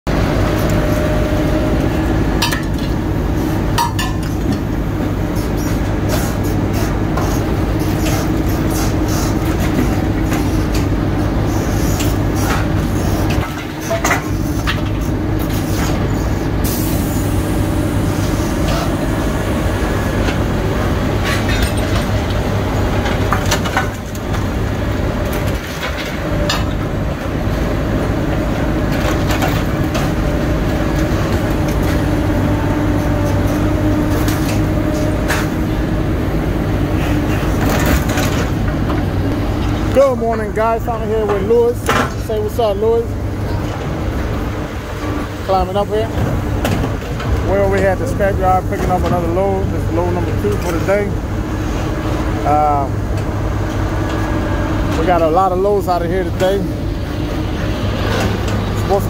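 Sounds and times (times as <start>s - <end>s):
low engine drone: 0.1s - 59.0s.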